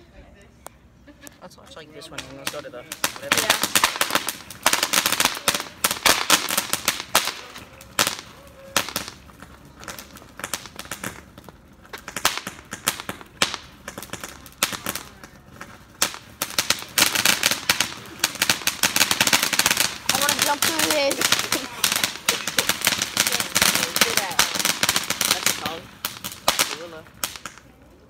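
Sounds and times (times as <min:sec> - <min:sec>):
fireworks crackling and popping: 0:01.2 - 0:28.0.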